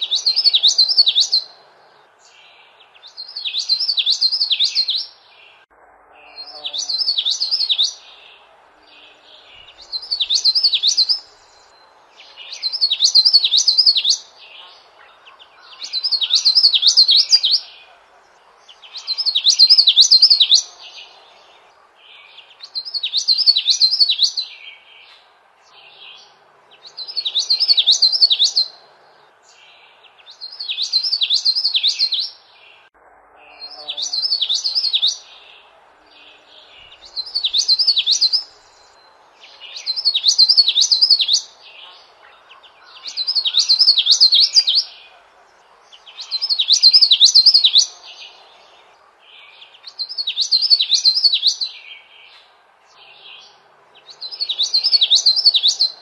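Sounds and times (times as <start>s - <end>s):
faint background hiss: 0.0s - 56.0s
songbird singing: 0.0s - 56.0s.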